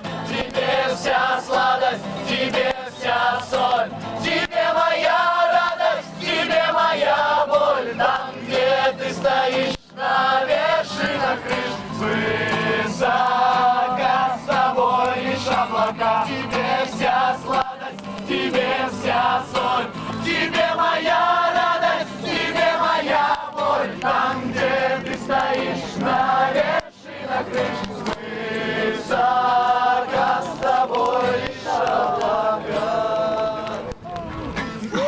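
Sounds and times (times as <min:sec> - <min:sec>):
choir singing: 0:00.0 - 0:34.0.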